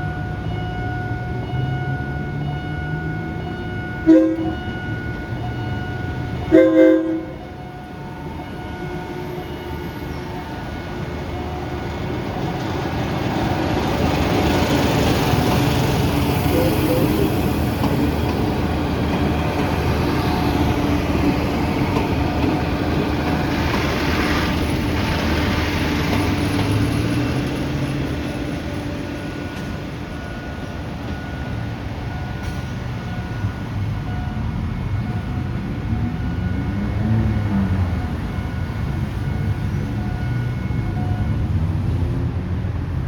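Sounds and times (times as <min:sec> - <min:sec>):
train passing rumble: 0:00.0 - 0:43.0.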